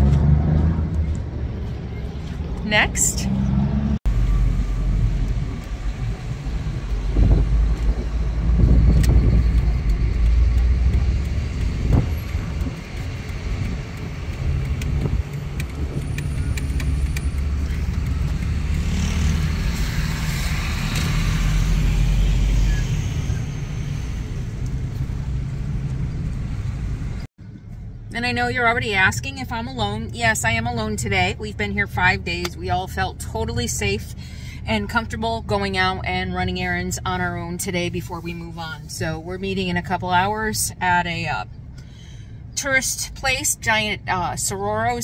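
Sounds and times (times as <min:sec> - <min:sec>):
vehicle engine and road rumble: 0:00.0 - 0:45.0.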